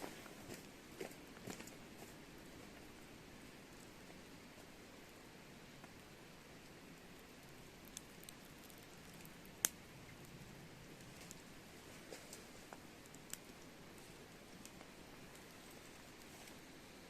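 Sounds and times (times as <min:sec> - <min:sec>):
faint steady hiss: 0:00.0 - 0:17.0
campfire crackling and popping: 0:02.3 - 0:17.0.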